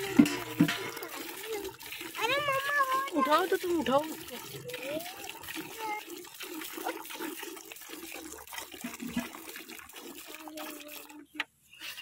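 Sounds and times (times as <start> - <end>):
milk squirting into metal bucket: 0.0 - 12.0.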